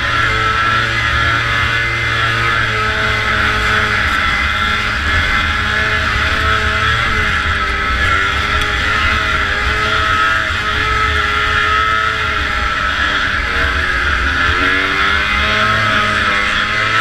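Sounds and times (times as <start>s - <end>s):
snowmobile engine at high revs: 0.0s - 17.0s.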